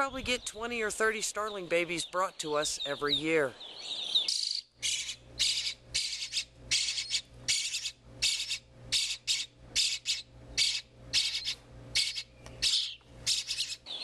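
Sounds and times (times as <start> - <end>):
nestlings raspy begging calls: 1.4 - 14.0.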